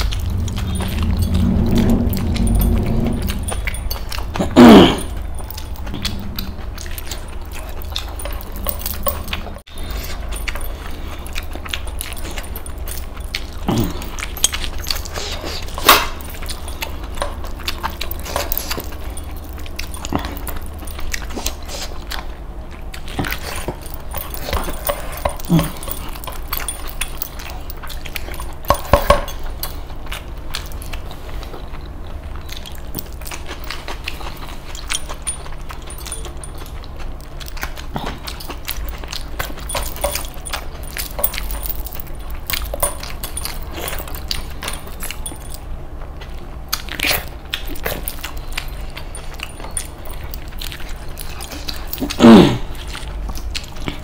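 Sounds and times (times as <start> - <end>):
low hum: 0.0 - 54.0
man chewing and smacking lips: 0.0 - 54.0.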